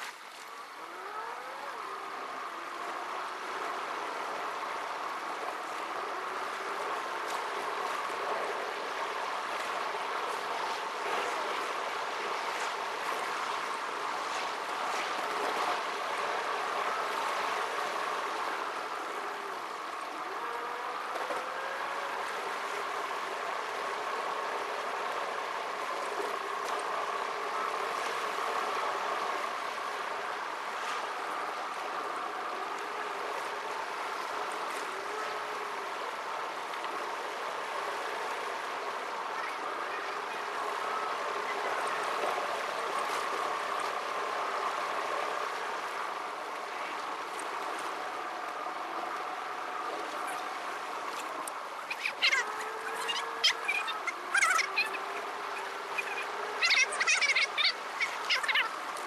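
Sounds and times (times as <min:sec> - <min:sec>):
sped-up car driving noise: 0:00.0 - 0:59.0.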